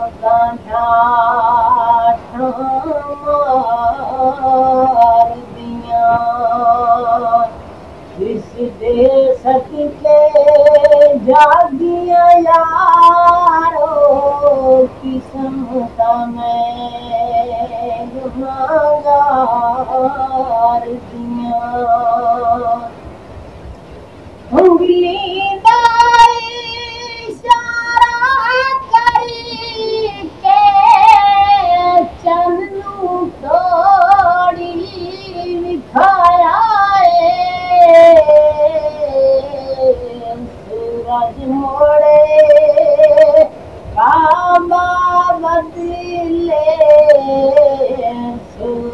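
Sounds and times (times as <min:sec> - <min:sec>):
man singing unaccompanied: 0:00.0 - 0:23.0, 0:24.5 - 0:48.9.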